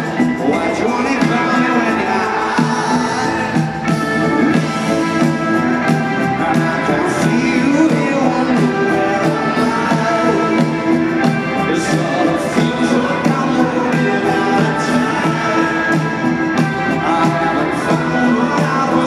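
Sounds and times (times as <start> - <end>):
drum beat: 0.0 - 19.0
electric guitar: 0.0 - 19.0
man singing: 0.0 - 19.0.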